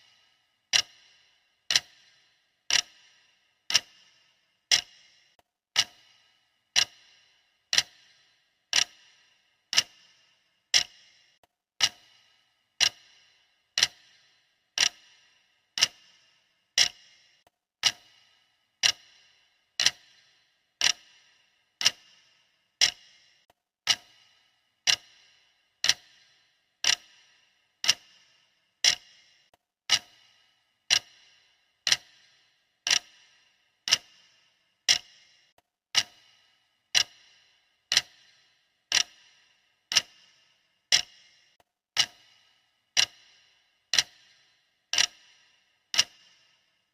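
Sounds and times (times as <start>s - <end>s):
clock ticking: 0.0s - 46.9s.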